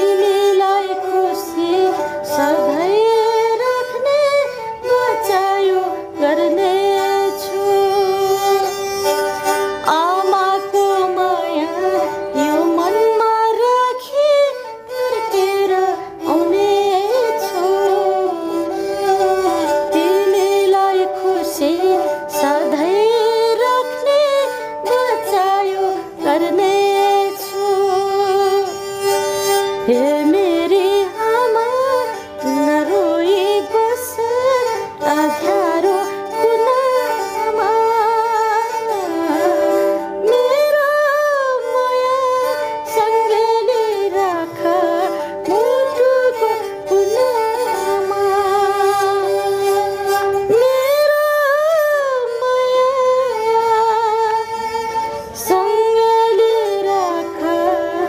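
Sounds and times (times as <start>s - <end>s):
woman singing folk song: 0.0s - 8.6s, 9.8s - 58.0s
bowed fiddle: 0.0s - 58.0s.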